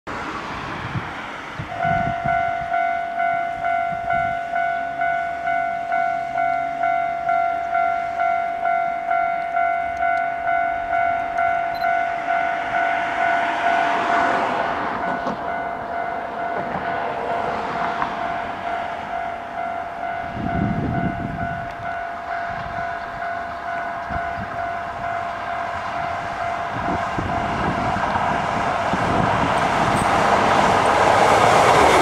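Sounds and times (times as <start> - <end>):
approaching train running: 0.1 - 32.0
level-crossing alarm bell: 1.7 - 28.0.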